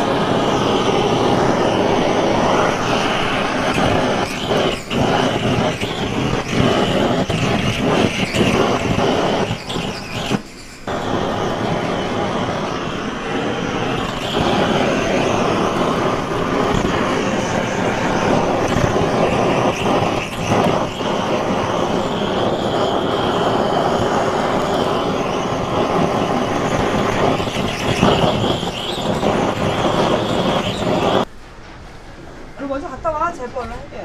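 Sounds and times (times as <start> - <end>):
blowtorch flame roaring: 0.0 - 31.3.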